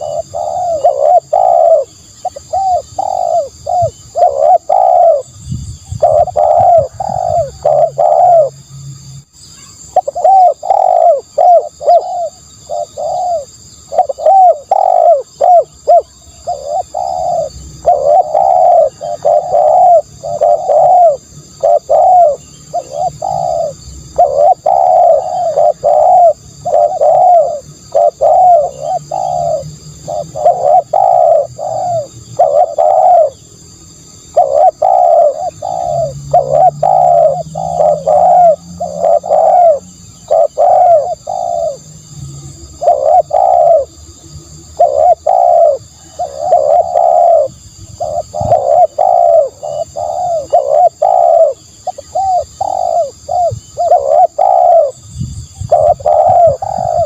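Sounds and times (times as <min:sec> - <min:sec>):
dove cooing: 0:00.0 - 0:08.6, 0:09.7 - 0:44.0, 0:44.6 - 0:57.0.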